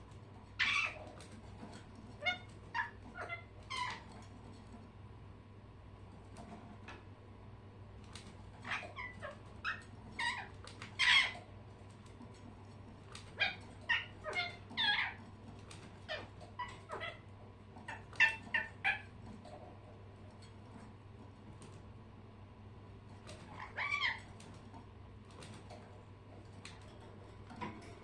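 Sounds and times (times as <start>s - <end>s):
pet birds chirping and squawking: 0.0s - 4.9s, 8.0s - 21.8s, 23.1s - 28.0s.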